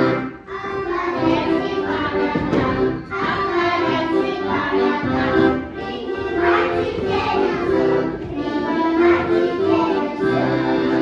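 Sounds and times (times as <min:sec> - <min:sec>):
accordion music: 0:00.0 - 0:11.0
children singing: 0:00.0 - 0:11.0.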